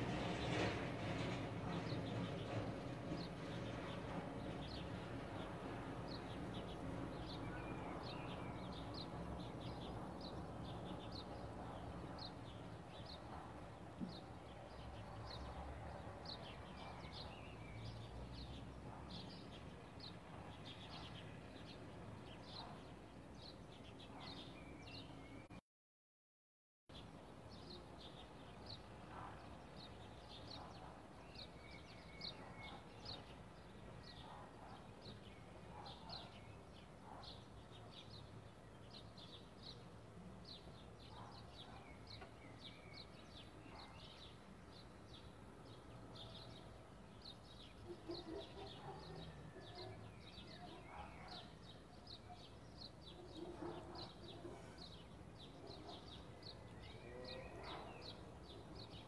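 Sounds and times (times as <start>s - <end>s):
small birds chirping: 0.0s - 25.6s, 26.9s - 59.0s.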